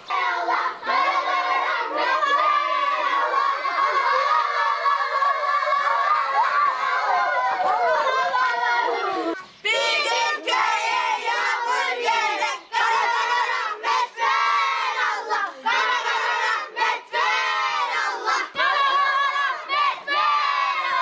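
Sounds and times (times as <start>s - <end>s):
children chanting in unison: 0.0s - 21.0s.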